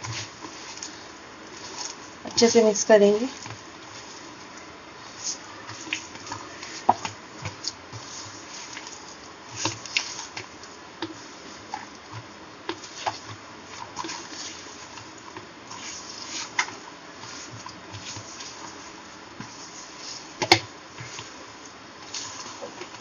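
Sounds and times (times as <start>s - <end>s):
hand kneading wet mixture: 0.0s - 23.0s.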